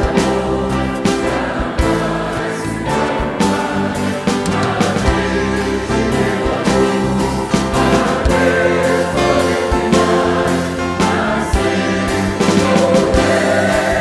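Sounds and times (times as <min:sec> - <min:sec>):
instrumental accompaniment: 0:00.0 - 0:14.0
mixed choir singing a hymn: 0:00.0 - 0:14.0
soloists singing: 0:00.0 - 0:14.0.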